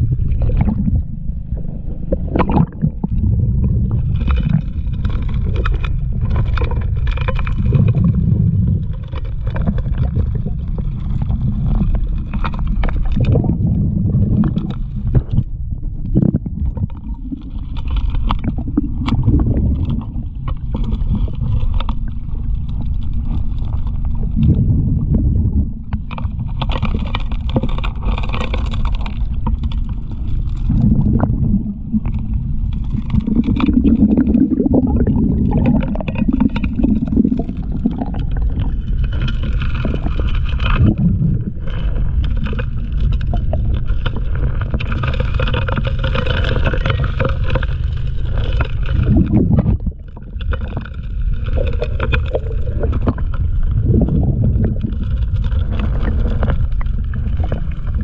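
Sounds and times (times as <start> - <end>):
underwater motor and pump drone: 0.0 - 58.0.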